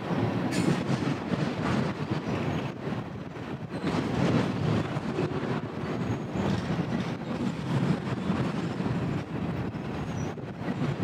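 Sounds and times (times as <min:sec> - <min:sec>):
freight train wheels rumbling on rails: 0:00.0 - 0:11.0.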